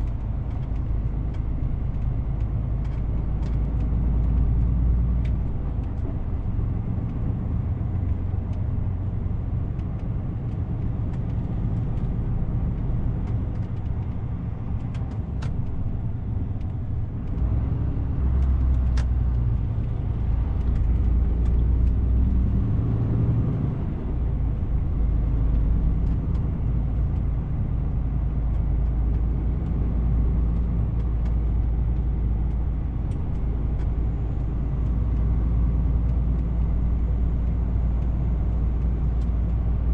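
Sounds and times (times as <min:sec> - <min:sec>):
road noise: 0:00.0 - 0:39.9
truck diesel engine rumble: 0:00.0 - 0:39.9.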